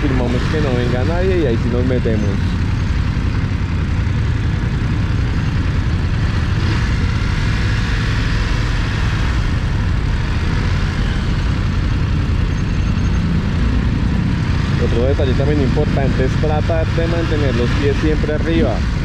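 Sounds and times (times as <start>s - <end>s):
motorcycle engine rumbling: 0.0s - 19.0s
surrounding car traffic: 0.0s - 19.0s.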